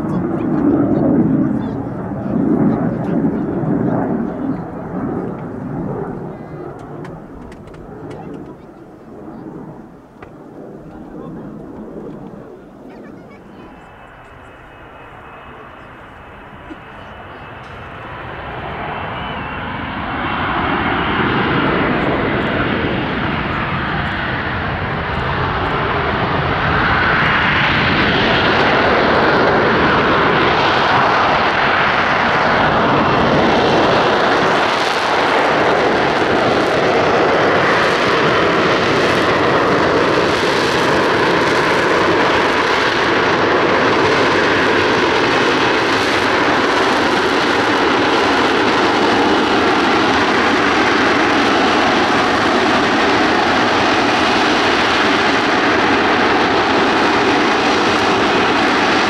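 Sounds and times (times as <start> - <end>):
jet engine roar: 0.0 - 59.0.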